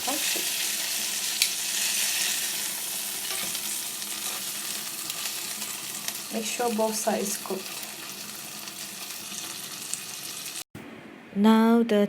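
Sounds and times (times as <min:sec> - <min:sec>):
chicken sizzling in a pan: 0:00.0 - 0:10.7.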